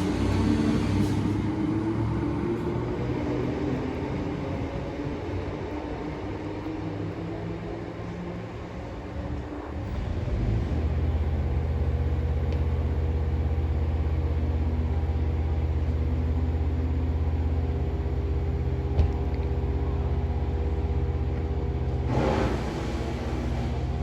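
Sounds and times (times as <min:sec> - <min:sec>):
low mechanical rumble with hum: 0:00.0 - 0:24.0.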